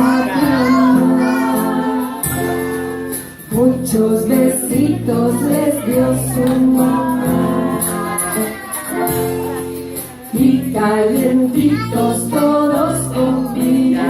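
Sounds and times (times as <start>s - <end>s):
instrumental accompaniment: 0.0s - 14.0s
voices singing children's song: 0.0s - 14.0s.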